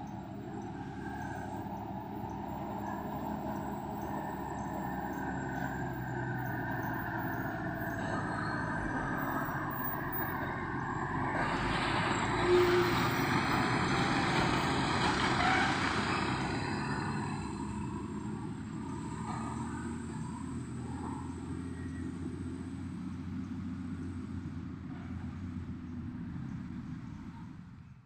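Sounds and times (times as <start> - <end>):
heavy truck diesel engine: 0.0 - 28.0
truck passing rush of noise: 0.0 - 28.0.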